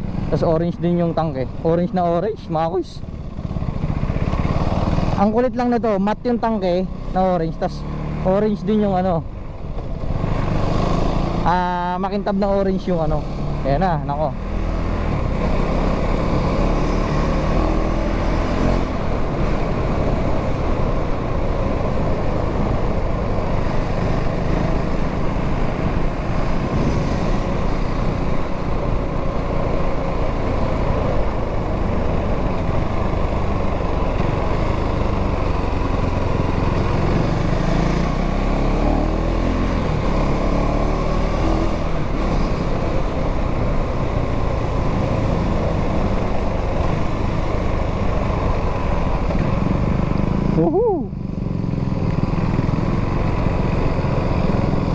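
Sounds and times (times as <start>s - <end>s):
motorcycle engine running: 0.0s - 54.9s
wind rush and road noise: 0.0s - 54.9s.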